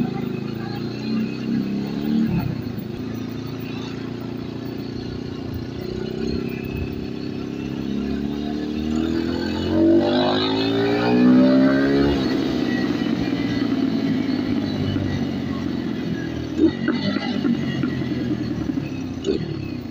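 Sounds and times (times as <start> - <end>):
motorcycle engine accelerating: 0.0 - 19.9.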